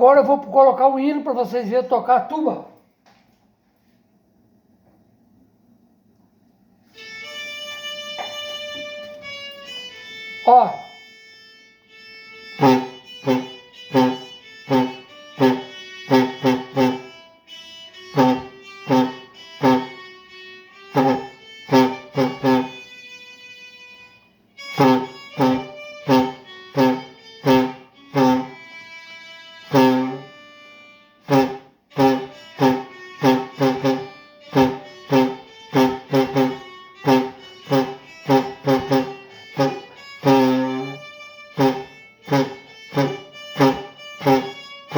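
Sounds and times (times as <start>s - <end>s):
homemade pipe tuba playing: 6.9s - 44.9s.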